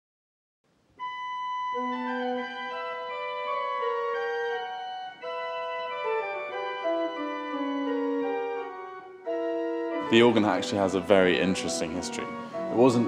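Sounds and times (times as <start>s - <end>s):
pipe organ playing: 1.0s - 13.0s.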